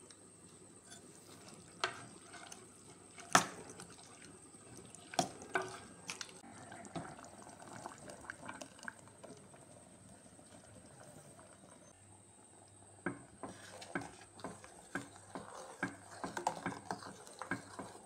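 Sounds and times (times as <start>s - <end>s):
wet stirring: 0.4s - 12.0s, 13.0s - 18.0s.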